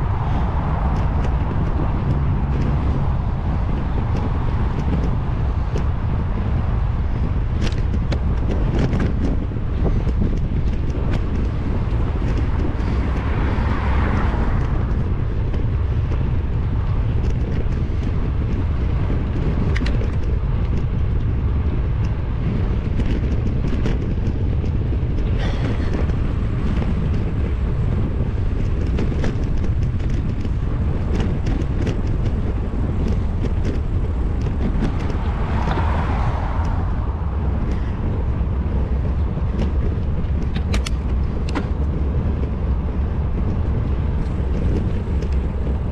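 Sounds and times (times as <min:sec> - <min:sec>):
bicycle clicks and rattles: 0:00.0 - 0:45.9
vehicles passing: 0:00.0 - 0:45.9
wind rumbling on microphone: 0:00.0 - 0:45.9.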